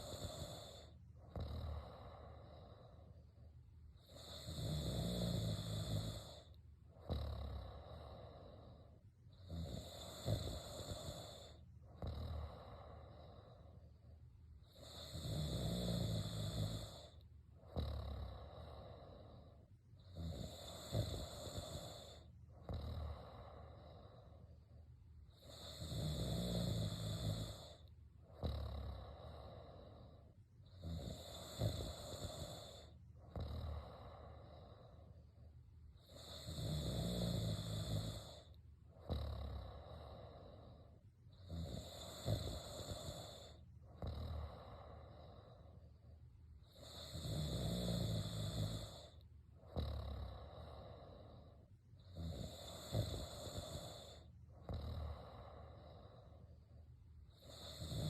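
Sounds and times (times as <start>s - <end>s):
person snoring: 0.0s - 3.2s, 4.0s - 14.0s, 14.6s - 24.6s, 25.3s - 35.2s, 36.0s - 46.0s, 46.6s - 58.0s
soft breathing: 0.0s - 58.0s.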